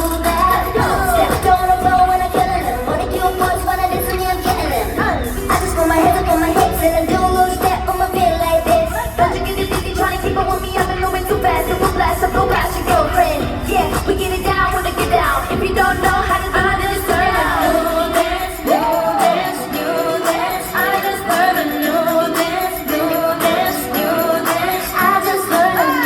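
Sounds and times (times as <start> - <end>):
amplified backing track: 0.0 - 26.0
female vocal group singing: 0.0 - 26.0.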